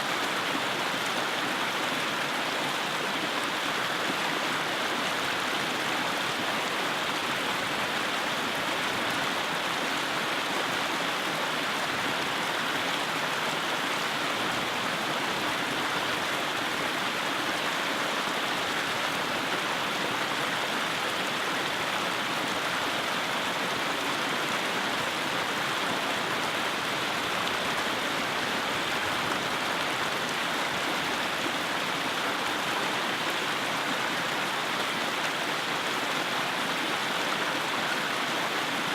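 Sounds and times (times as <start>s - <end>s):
creek rushing over rocks: 0.0s - 38.9s.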